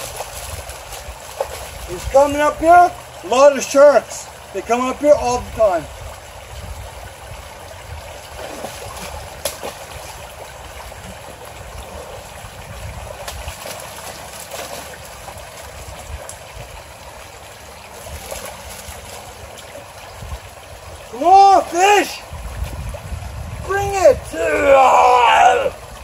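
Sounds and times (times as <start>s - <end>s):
creek trickling over stones: 0.0s - 26.0s.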